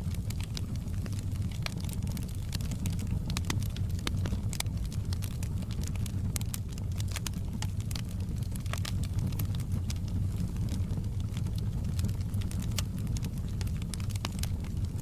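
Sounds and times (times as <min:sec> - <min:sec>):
wood fire crackling in fireplace: 0:00.0 - 0:15.0.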